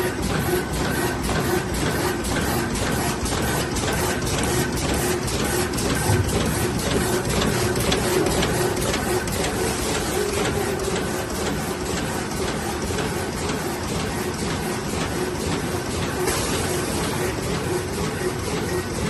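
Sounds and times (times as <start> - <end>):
machine clicking and rattling: 1.4 - 19.0.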